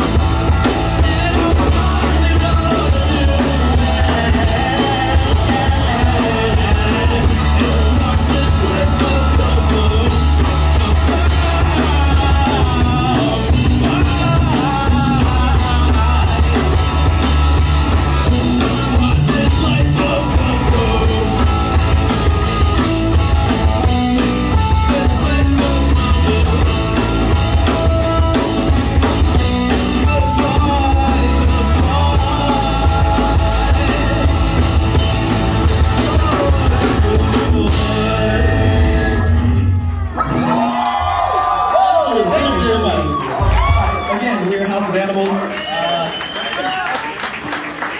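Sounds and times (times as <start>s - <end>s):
person singing: 0.0s - 28.6s, 29.4s - 40.8s
drum kit: 0.0s - 41.6s, 42.2s - 44.1s
heavy bass: 0.0s - 44.1s
live rock band playing: 0.0s - 44.5s.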